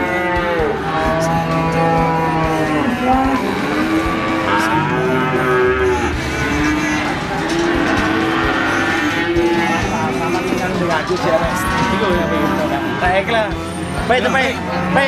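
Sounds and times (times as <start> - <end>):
cattle mooing: 0.0 - 15.0.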